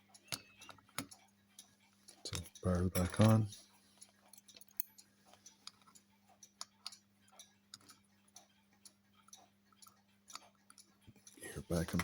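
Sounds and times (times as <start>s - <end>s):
small metallic clicks and taps: 0.0s - 12.0s.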